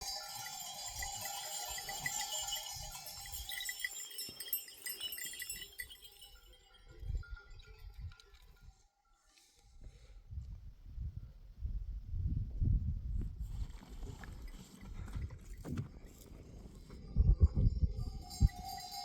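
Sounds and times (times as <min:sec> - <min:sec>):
animal bells jingling: 0:00.0 - 0:09.8, 0:13.4 - 0:19.0.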